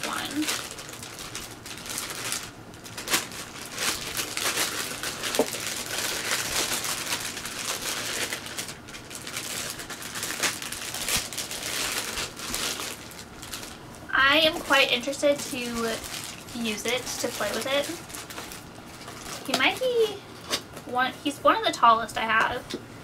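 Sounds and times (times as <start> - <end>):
plastic bag crinkling: 0.0 - 20.8.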